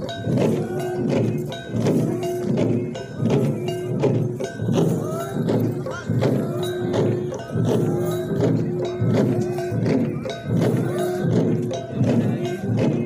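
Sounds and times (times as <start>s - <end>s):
drums beaten in fast rhythm: 0.0s - 13.0s.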